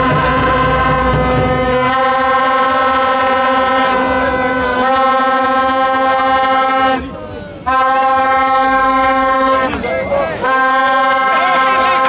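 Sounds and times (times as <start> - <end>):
crowd: 0.0 - 12.0
horn blaring steady note: 0.0 - 12.0.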